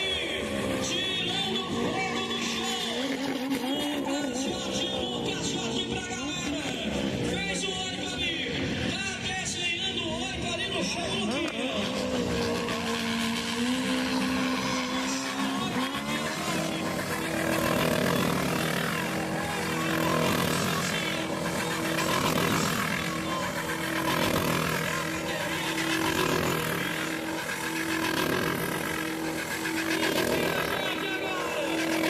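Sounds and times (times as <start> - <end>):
motorcycle engine revving: 0.0 - 9.2, 10.1 - 32.0.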